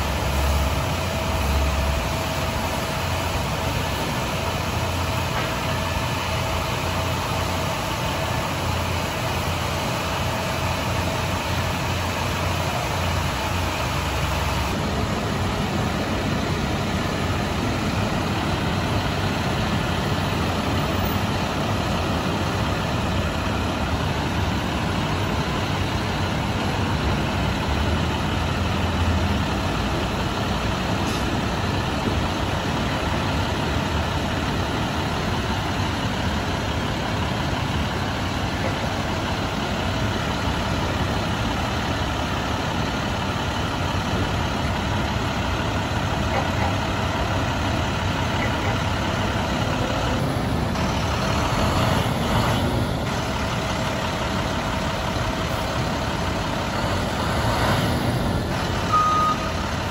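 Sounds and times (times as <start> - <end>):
bus engine idling: 0.0 - 59.9
car wash equipment noise: 0.0 - 59.9.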